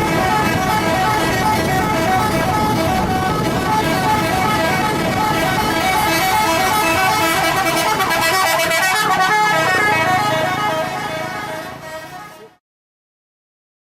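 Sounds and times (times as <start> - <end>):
bus horn playing a tune: 0.0 - 12.6.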